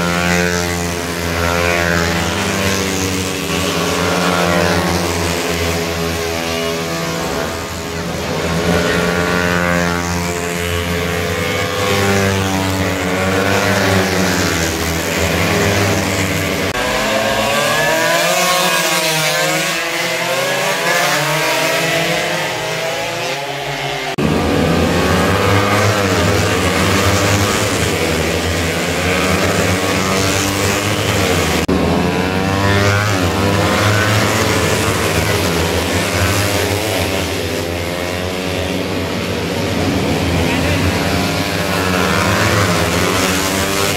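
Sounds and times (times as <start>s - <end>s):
racing motorcycles at high revs: 0.0s - 43.9s.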